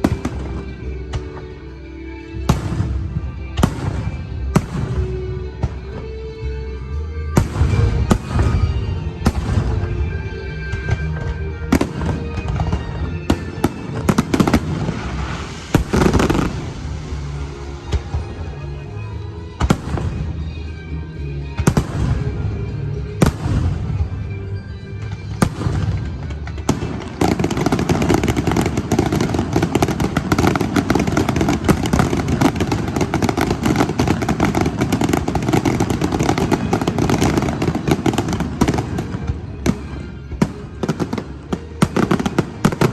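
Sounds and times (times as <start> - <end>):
fireworks bursting with bangs: 0.0 - 1.8, 2.4 - 6.3, 7.2 - 42.9
fireworks crackling: 0.0 - 6.4, 7.0 - 42.9
music: 0.0 - 42.9.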